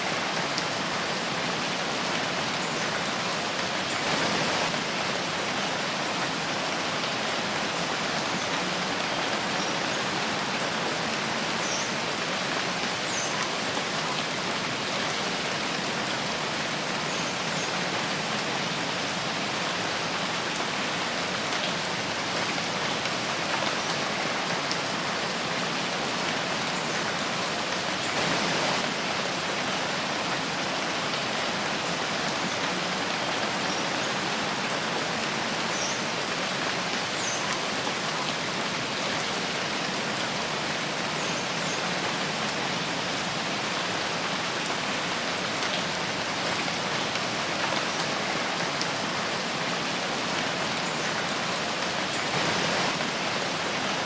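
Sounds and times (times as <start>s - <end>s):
steady rain in forest: 0.0s - 54.0s.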